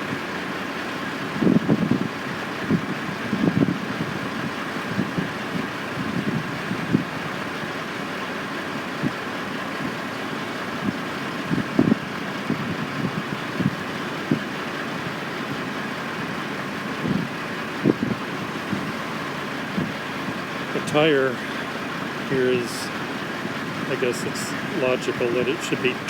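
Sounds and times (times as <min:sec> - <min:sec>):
construction machinery engines droning: 0:00.0 - 0:26.0.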